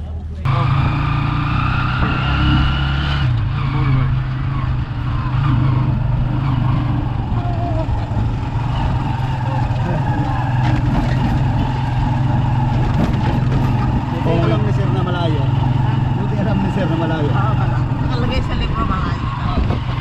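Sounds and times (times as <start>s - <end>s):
engine whine: 0.0s - 20.0s
road and wind noise: 0.0s - 20.0s
motorcycle engine running: 0.4s - 20.0s.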